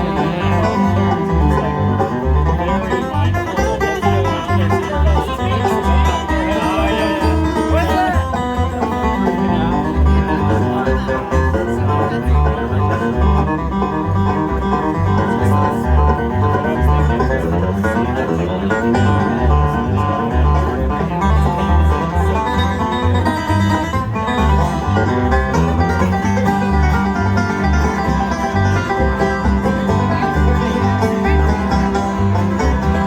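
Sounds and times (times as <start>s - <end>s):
banjo picking: 0.0s - 33.0s
bass line: 0.0s - 33.0s
guitar: 0.0s - 33.0s.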